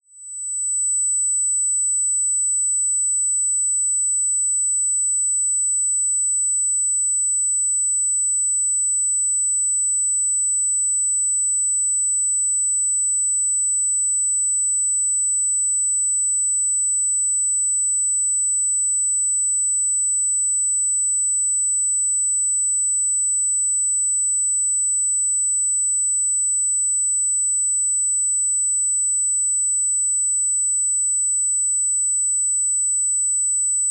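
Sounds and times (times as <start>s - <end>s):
high-pitched sine test tone: 0.0s - 33.9s.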